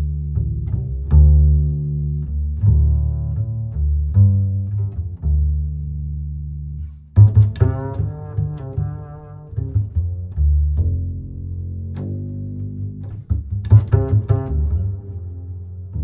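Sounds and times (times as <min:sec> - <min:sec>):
music with deep bass notes: 0:00.0 - 0:16.0.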